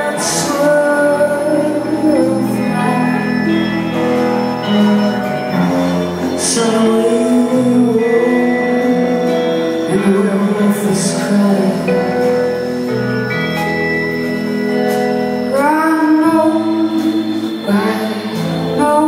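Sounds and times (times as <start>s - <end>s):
woman singing: 0.0s - 5.3s, 6.2s - 12.9s, 15.5s - 19.0s
live band playing: 0.0s - 19.0s.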